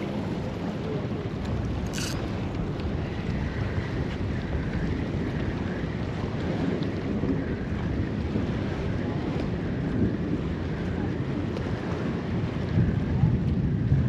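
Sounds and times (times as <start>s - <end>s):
water and surf rushing: 0.0s - 14.0s
wind buffeting microphone: 0.0s - 14.0s.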